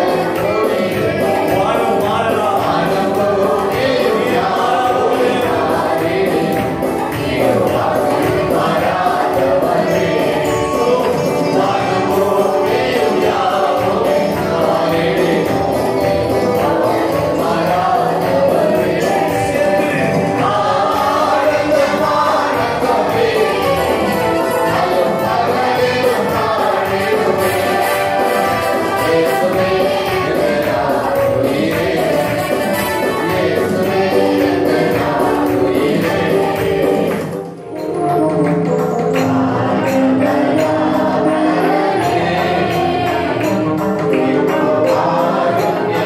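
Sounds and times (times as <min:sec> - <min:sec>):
women singing together: 0:00.0 - 0:37.5, 0:39.3 - 0:46.0
keyboard backing: 0:00.0 - 0:46.0
percussion beat: 0:00.0 - 0:46.0.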